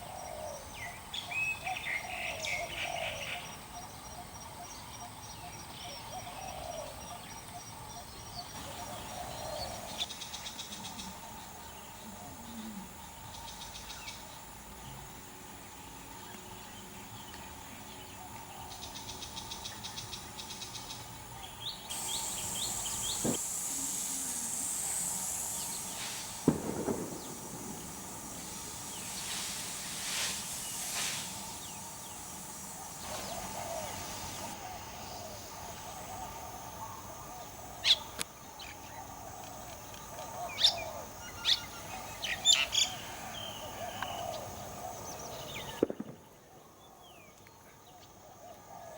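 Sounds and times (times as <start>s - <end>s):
steady background hiss: 0.0s - 48.9s
small birds chirping: 4.7s - 46.2s.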